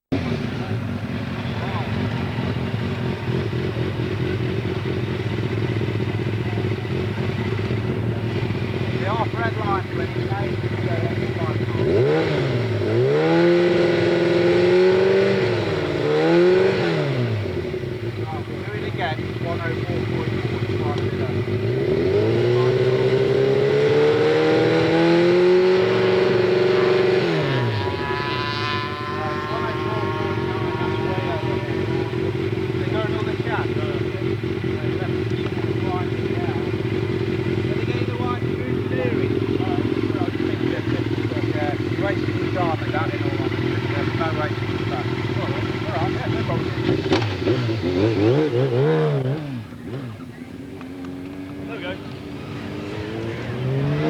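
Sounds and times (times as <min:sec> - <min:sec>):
motorcycle engine running steadily: 0:00.0 - 0:54.0.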